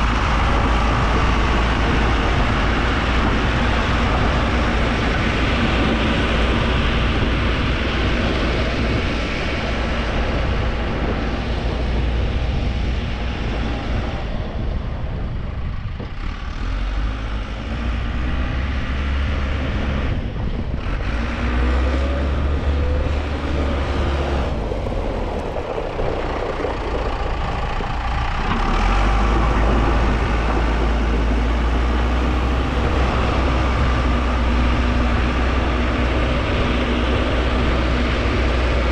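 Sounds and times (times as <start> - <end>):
truck engine rumbling: 0.0 - 38.9.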